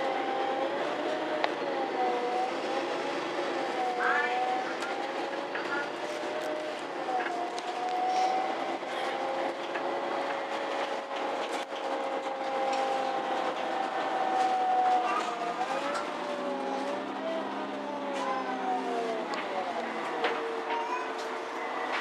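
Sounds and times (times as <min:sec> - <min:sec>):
bus engine and road noise: 0:00.0 - 0:22.0
drivetrain whine: 0:00.0 - 0:22.0.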